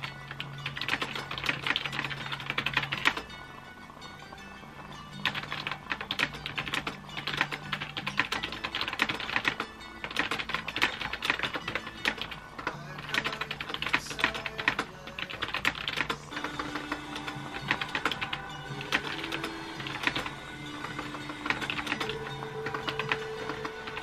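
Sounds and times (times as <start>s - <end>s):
computer keyboard typing: 0.0s - 3.3s, 5.2s - 24.0s
soft piano music: 0.0s - 24.0s.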